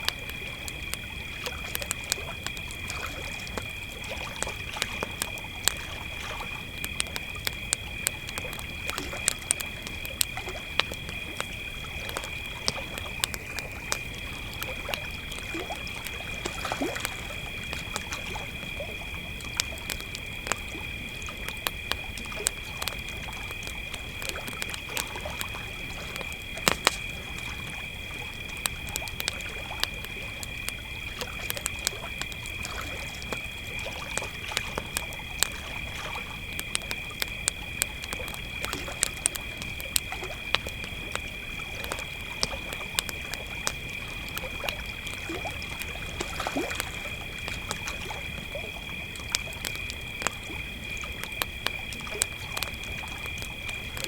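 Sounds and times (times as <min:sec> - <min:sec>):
campfire crackling: 0:00.0 - 0:54.0
crickets trilling: 0:00.0 - 0:54.0.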